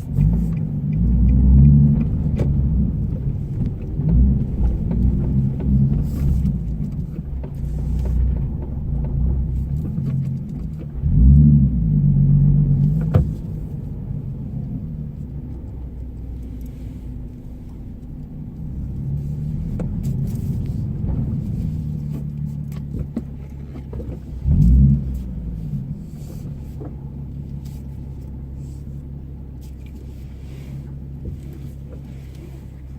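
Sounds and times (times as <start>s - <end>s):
car engine inside cabin: 0.0s - 32.9s.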